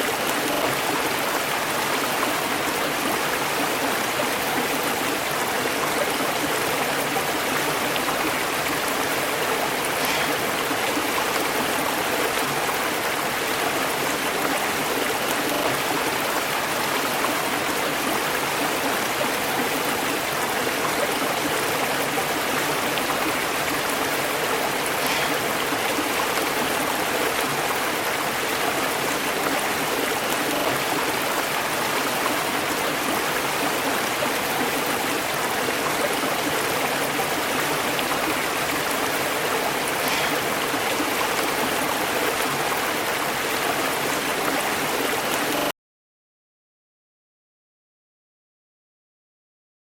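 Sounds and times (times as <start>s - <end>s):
river water rushing over rocks: 0.0s - 45.6s.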